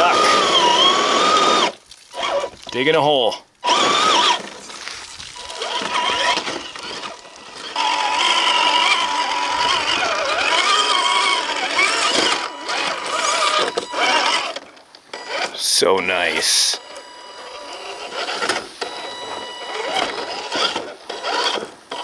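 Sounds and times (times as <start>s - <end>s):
rc car electric motor whining: 0.0s - 2.6s, 3.6s - 22.0s.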